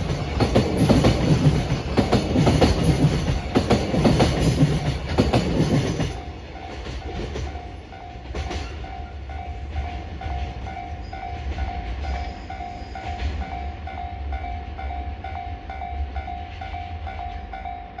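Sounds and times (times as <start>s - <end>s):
crossing warning bell dinging: 0.0s - 18.0s
freight train passing: 0.0s - 18.0s.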